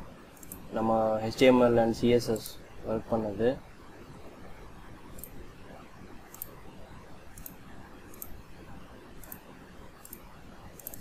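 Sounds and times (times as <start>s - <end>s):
low hiss: 0.0s - 11.0s.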